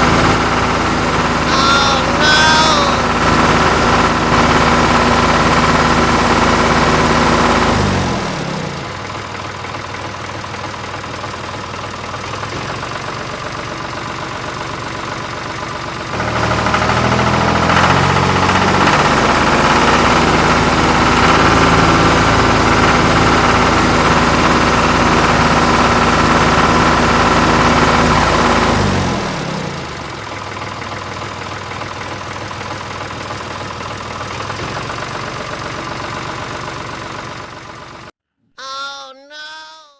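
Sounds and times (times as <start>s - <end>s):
engine idling and revving: 0.0s - 1.5s, 3.1s - 38.1s.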